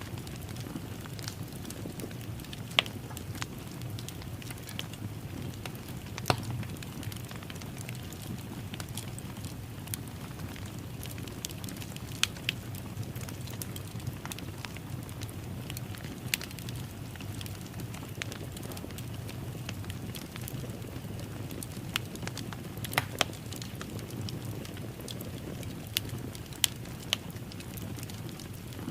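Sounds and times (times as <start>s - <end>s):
low rumble of burning: 0.0s - 28.9s
wood fire crackling and popping: 0.0s - 28.9s.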